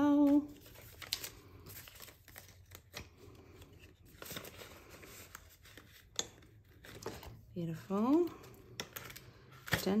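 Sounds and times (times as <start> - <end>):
banknotes and plastic rustling: 0.0 - 10.0.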